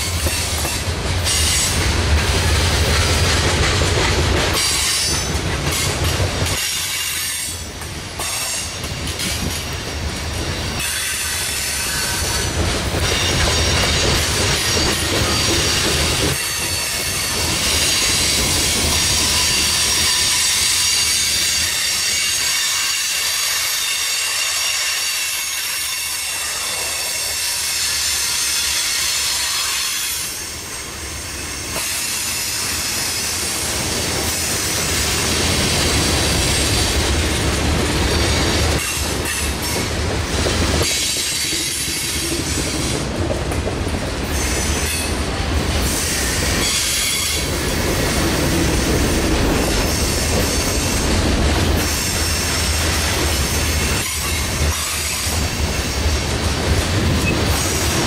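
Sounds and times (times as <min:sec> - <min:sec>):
wheel squeal on rail: 0:00.0 - 0:01.9, 0:04.5 - 0:07.6, 0:10.6 - 0:43.1, 0:44.2 - 0:45.2, 0:45.8 - 0:56.2, 0:57.0 - 0:58.0
train wheels clattering: 0:00.0 - 0:58.0.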